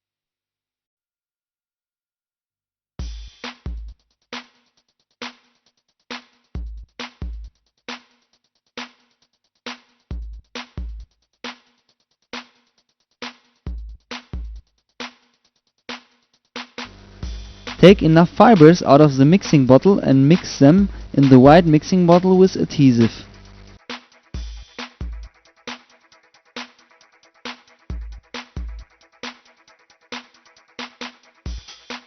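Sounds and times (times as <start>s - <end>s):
music with drum-machine beat: 3.0s - 32.0s.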